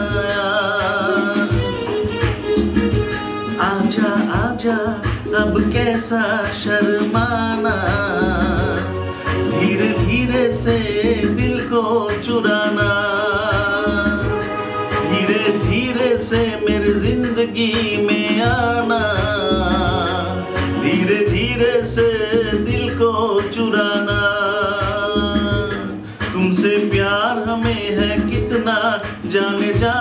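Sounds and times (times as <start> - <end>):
backing track with steady beat: 0.0 - 30.0
man singing: 0.0 - 30.0.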